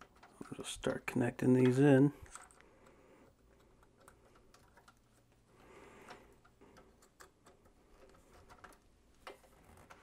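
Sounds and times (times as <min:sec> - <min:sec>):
cable connectors clicking: 0:00.0 - 0:10.0.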